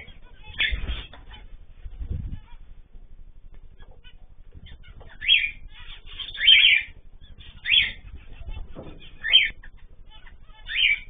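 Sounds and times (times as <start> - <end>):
finches calling: 0.0 - 1.6, 3.6 - 11.0.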